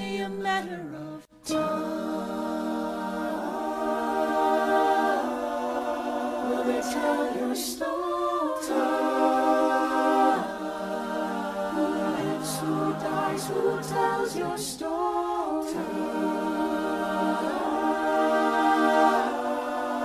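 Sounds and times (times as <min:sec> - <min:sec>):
choir singing held chords: 0:01.2 - 0:20.0.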